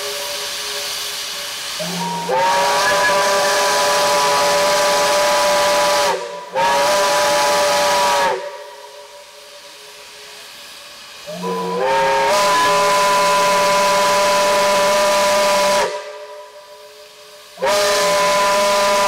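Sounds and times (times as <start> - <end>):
steam locomotive whistle blasts: 0.0 - 10.3, 11.2 - 19.0
steam hissing: 0.0 - 19.0.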